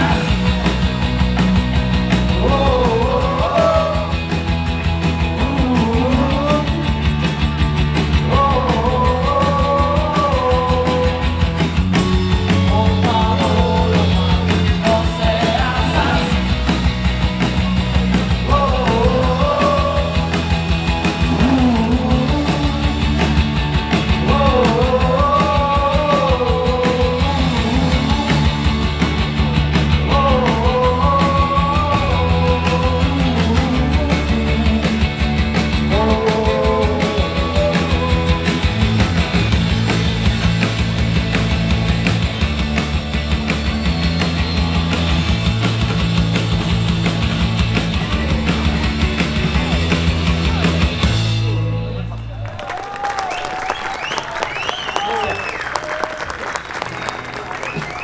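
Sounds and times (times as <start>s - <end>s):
rock band playing live: 0.0s - 52.3s.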